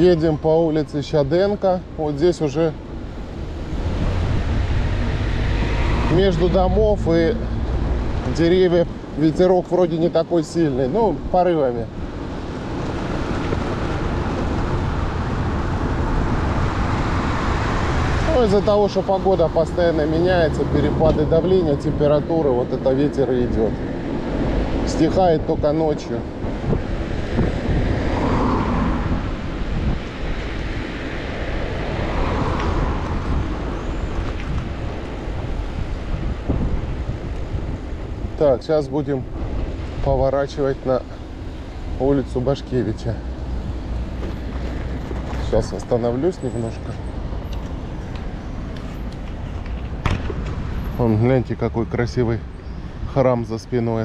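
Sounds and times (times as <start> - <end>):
wind buffeting microphone: 1.8 - 46.1.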